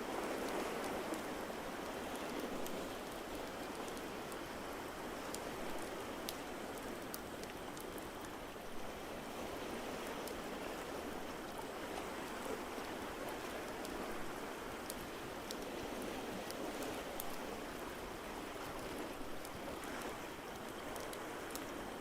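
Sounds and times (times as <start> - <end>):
rushing water: 0.0 - 22.0.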